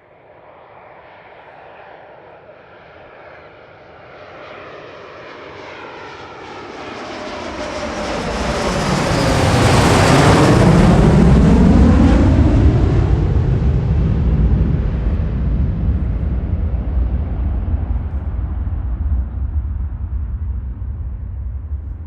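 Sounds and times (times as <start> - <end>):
jet planes roaring past: 0.0 - 22.0.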